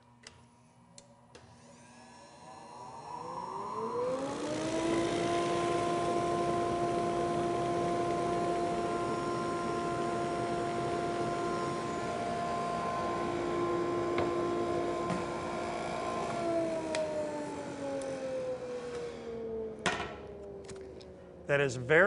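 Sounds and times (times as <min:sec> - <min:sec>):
sander motor whine: 0:01.6 - 0:22.0.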